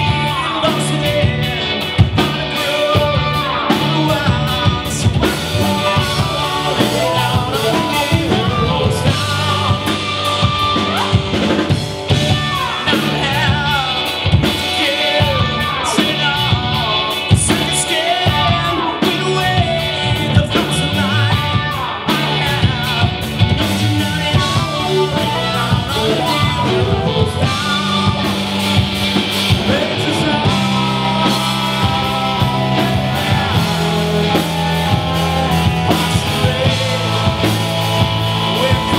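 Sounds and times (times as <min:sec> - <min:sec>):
bass guitar: 0:00.0 - 0:38.9
drum kit: 0:00.0 - 0:38.9
electric guitars: 0:00.0 - 0:38.9
man singing lead: 0:00.0 - 0:38.9.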